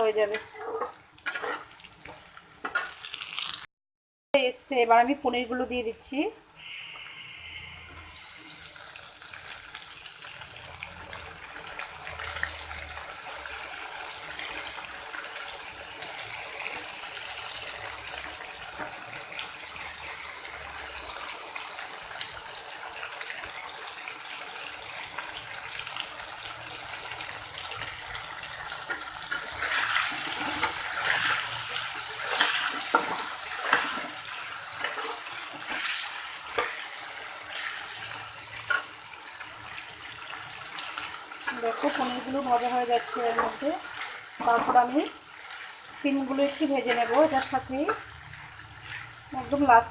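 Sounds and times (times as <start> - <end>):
food sizzling in hot oil: 0.0 - 3.7, 4.4 - 49.9.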